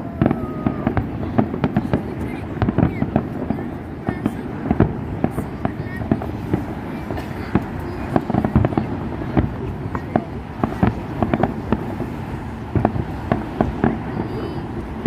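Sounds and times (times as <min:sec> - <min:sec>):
continuous low rumble: 0:00.0 - 0:15.0
fireworks bangs and cracks: 0:00.0 - 0:15.0.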